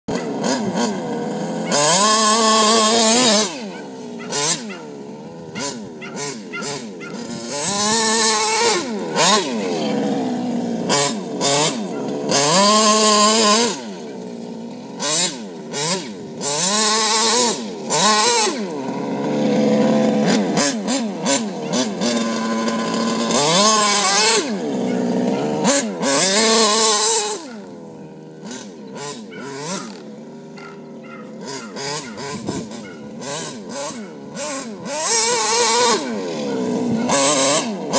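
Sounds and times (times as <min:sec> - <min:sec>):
rc buggy engine revving: 0:00.0 - 0:37.9.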